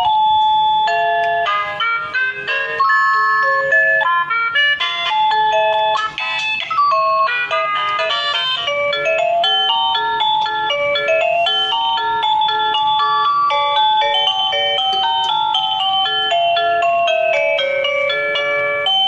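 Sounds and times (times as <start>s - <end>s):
electronic bell-like melody: 0.0s - 19.0s.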